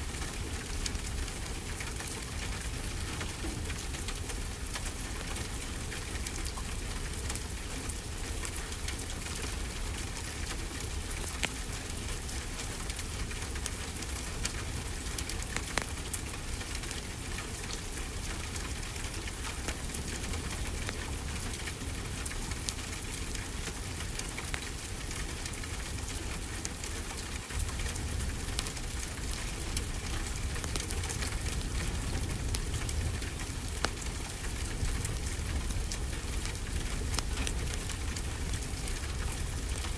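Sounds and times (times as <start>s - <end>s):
rainfall hiss: 0.0s - 39.9s
wood fire crackling: 0.2s - 39.9s.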